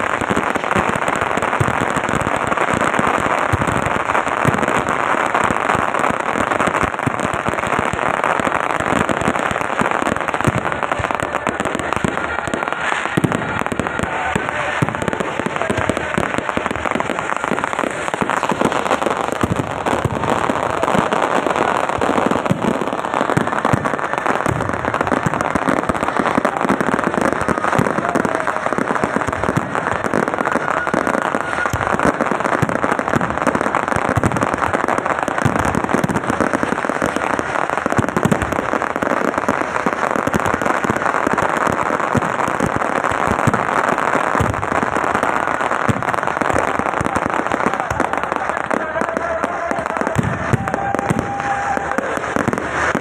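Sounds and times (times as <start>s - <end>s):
fireworks crackling and popping: 0.0s - 53.0s.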